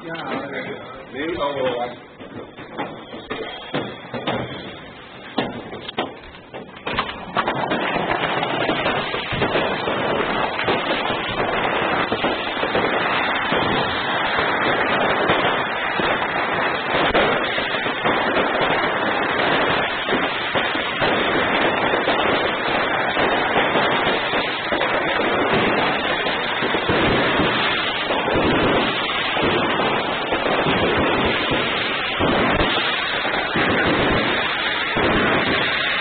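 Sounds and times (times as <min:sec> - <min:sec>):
fireworks crackling and banging: 0:00.0 - 0:36.0.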